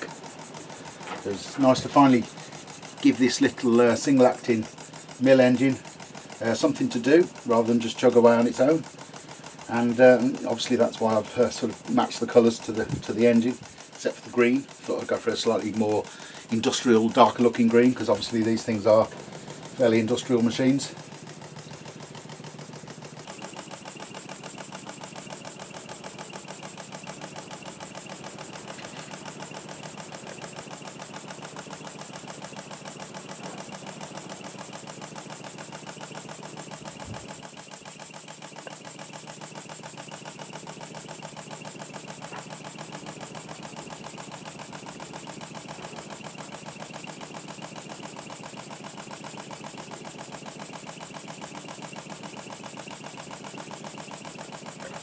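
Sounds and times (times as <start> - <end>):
model steam engine chuffing: 0.0 - 55.0.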